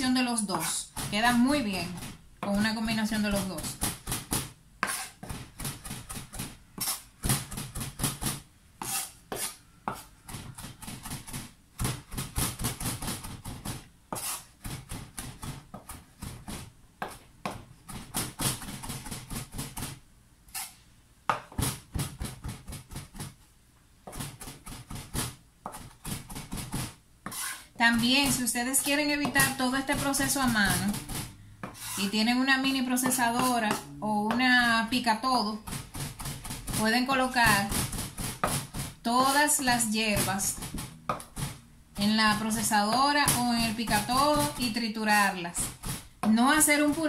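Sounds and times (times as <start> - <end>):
knife chopping on wooden board: 0.5 - 20.0, 21.3 - 23.4, 24.0 - 32.0, 32.9 - 47.0.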